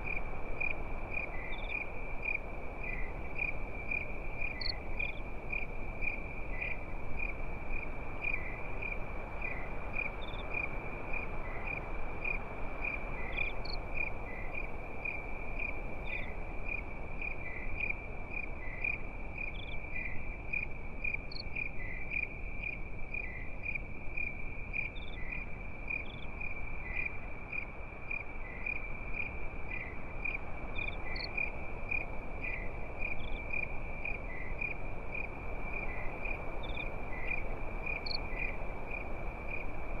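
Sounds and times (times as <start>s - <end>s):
crickets trilling: 0.0s - 40.0s
low steady hiss: 0.0s - 40.0s.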